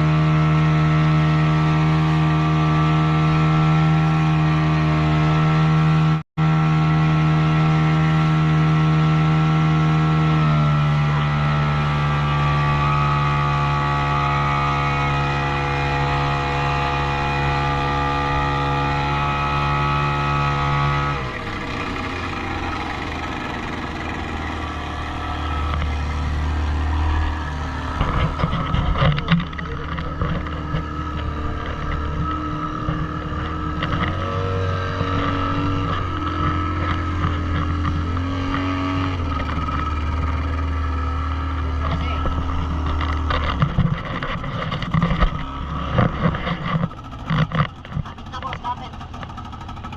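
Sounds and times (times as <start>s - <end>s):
motorboat engine running: 0.0s - 49.9s.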